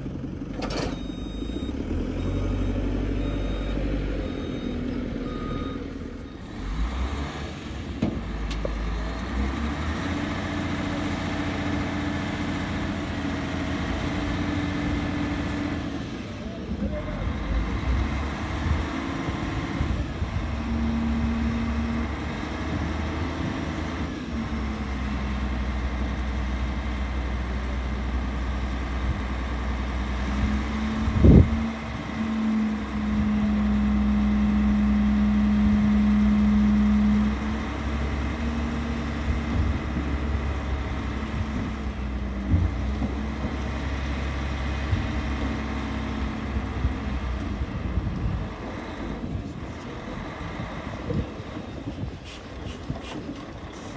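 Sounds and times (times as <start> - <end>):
heavy diesel engines running: 0.0 - 53.9.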